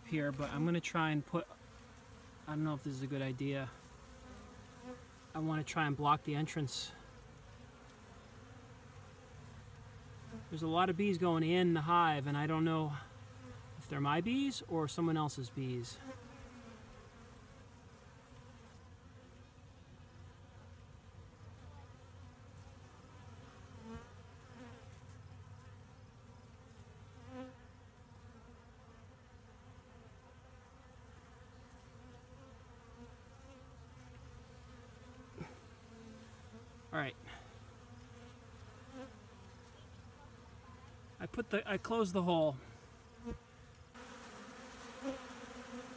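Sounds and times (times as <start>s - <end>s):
bees buzzing: 0.0s - 45.9s
louder bee buzzes: 0.0s - 45.9s.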